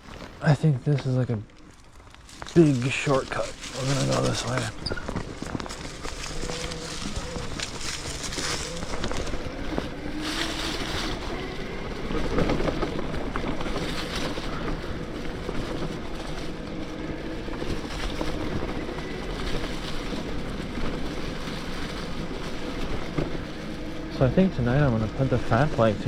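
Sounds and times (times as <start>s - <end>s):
bike jolts: 0.0s - 26.0s
wind noise: 1.9s - 26.0s
tyre rolling noise: 2.2s - 26.0s
electric motor whining: 2.4s - 26.0s.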